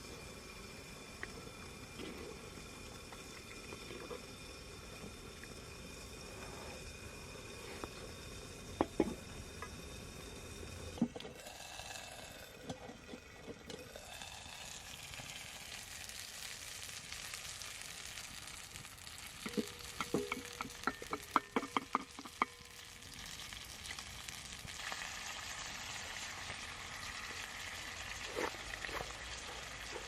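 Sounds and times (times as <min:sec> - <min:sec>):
food sizzling in a skillet: 0:00.0 - 0:30.0.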